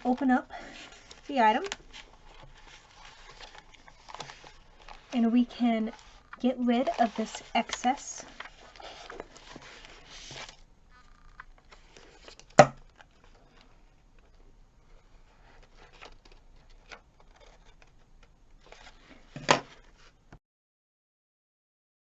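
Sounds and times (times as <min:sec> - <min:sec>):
paper rustling: 0:00.0 - 0:20.2.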